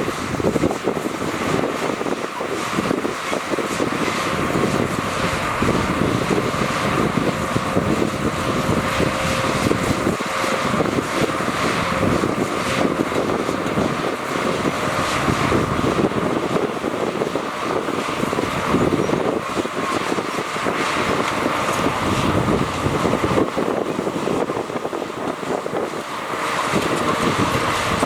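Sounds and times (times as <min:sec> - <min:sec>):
heavy diesel machinery rumbling: 0:00.0 - 0:28.0.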